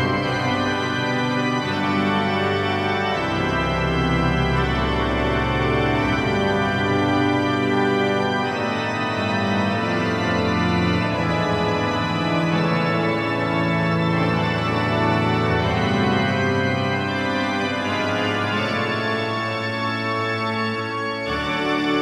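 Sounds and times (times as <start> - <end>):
pipe organ chorale prelude: 0.0 - 22.0.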